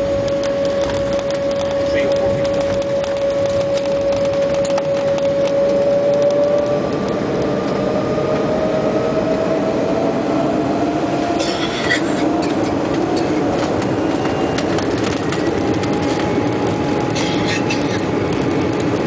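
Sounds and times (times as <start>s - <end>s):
jet engines whining and rumbling: 0.0s - 19.0s.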